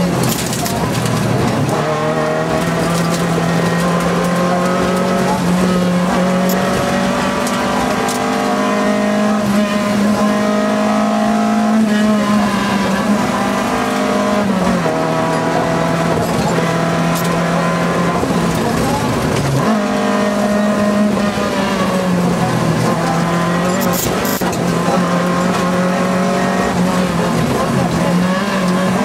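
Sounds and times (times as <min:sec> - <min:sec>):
car engine revving high: 0:00.0 - 0:29.0.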